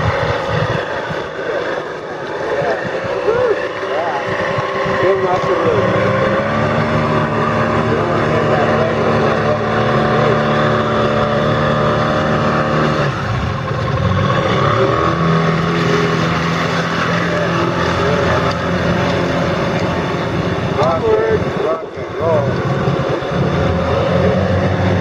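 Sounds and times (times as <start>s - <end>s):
motorboat engine running: 0.0s - 25.0s.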